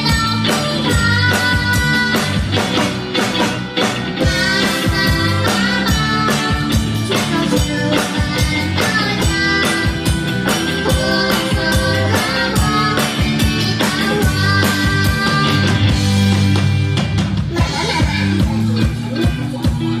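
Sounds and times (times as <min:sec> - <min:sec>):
drum kit beat: 0:00.0 - 0:20.0
electric guitar: 0:00.0 - 0:20.0.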